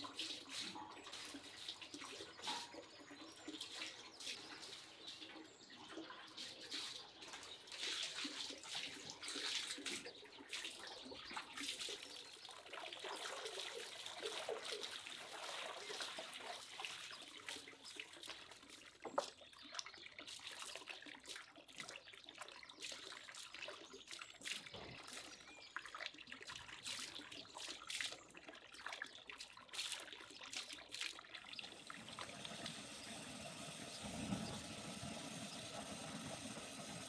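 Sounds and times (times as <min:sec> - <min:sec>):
water splashing and trickling: 0:00.0 - 0:37.0.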